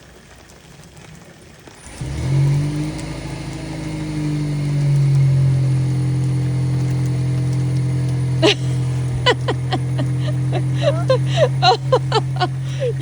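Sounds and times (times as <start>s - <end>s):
car engine idling: 1.8s - 13.0s.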